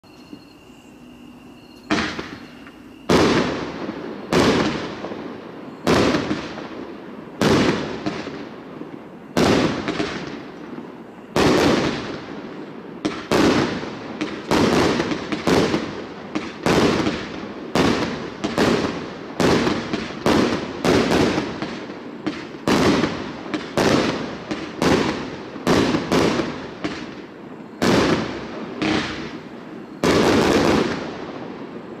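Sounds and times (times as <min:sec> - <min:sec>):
firework bangs with echo: 0:01.9 - 0:31.9.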